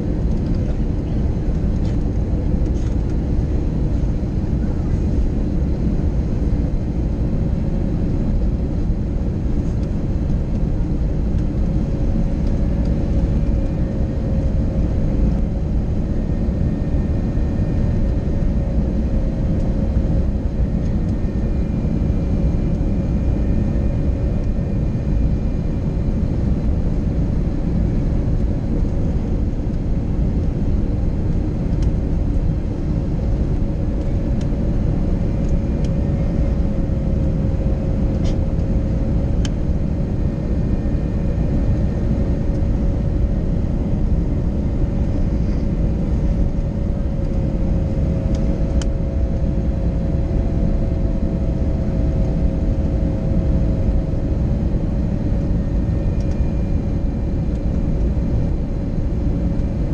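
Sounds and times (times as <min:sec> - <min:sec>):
airflow and jet engines: 0:00.0 - 0:59.9.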